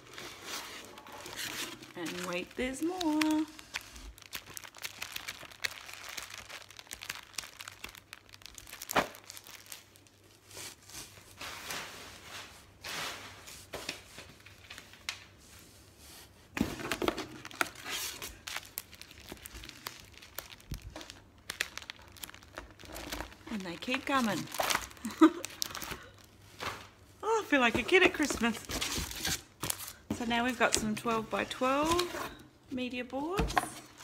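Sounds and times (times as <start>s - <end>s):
plastic packaging rustling and crinkling: 0.0s - 34.0s.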